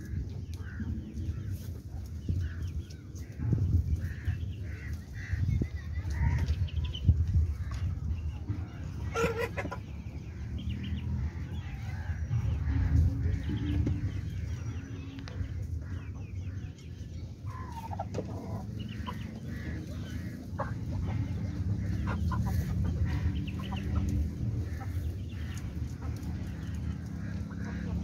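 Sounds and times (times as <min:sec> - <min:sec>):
hens clucking: 0:00.0 - 0:28.0
steady low rumble: 0:00.0 - 0:28.0.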